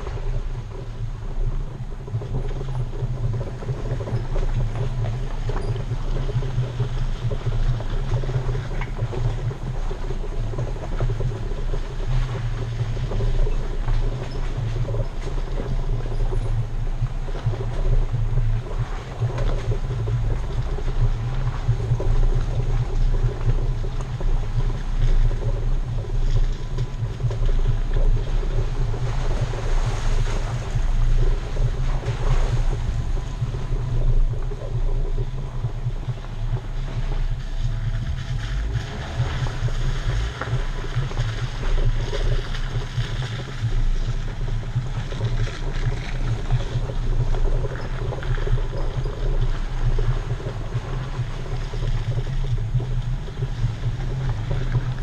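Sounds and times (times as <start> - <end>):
vehicle engine drone: 0.0 - 55.0.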